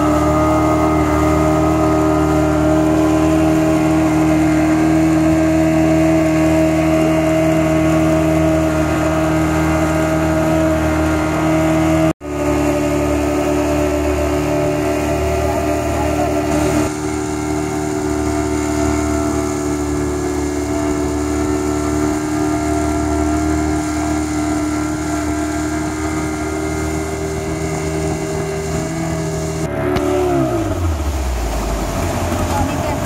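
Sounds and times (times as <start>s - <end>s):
outboard motor at high revs: 0.0s - 33.0s
water and wind rushing: 0.0s - 33.0s.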